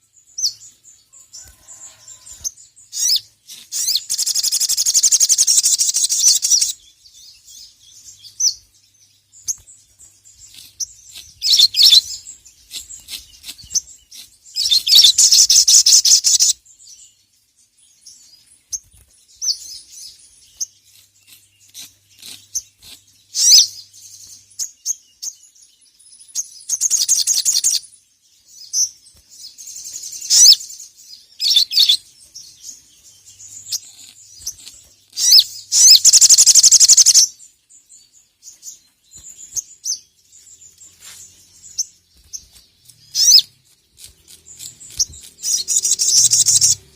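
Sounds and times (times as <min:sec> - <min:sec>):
sunbird singing: 0:00.0 - 0:46.9.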